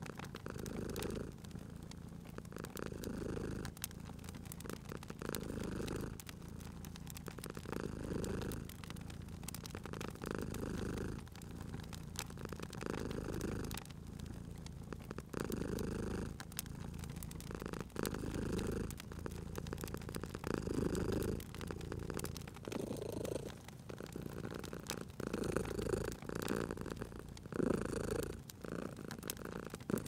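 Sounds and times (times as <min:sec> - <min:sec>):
cat purring: 0:00.0 - 0:30.0
wood fire crackling and popping: 0:00.0 - 0:30.0.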